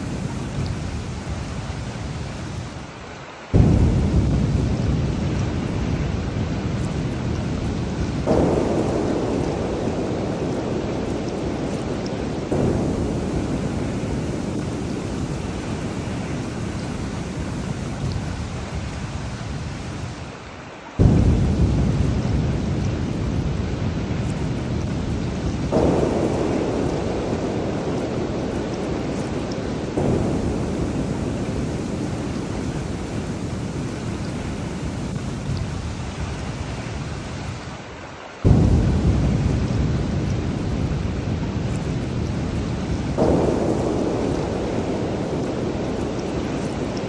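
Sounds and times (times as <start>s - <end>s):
rolling thunder: 0.0s - 2.8s, 3.5s - 20.3s, 21.0s - 37.6s, 38.4s - 47.0s
heavy rain: 0.0s - 47.0s.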